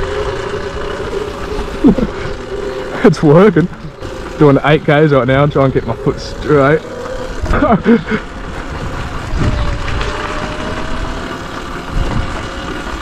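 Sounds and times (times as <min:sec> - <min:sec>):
faint motor whine: 0:00.0 - 0:13.0
tyre noise: 0:00.0 - 0:13.0
wind rumbling on microphone: 0:00.0 - 0:13.0.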